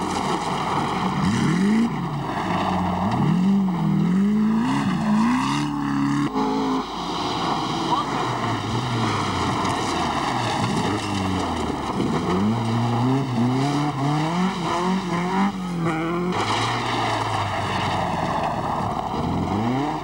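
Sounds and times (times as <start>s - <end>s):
car engine revving through gears: 0.0s - 20.0s.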